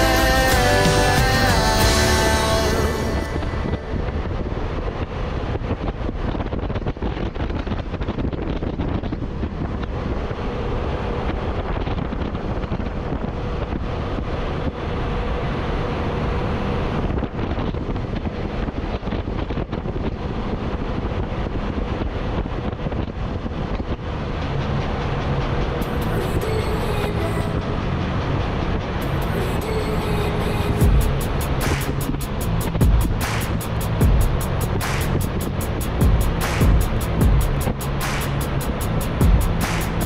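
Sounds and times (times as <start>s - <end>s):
truck engine and tyre noise: 0.0s - 40.0s
wind rushing over camera: 2.3s - 40.0s.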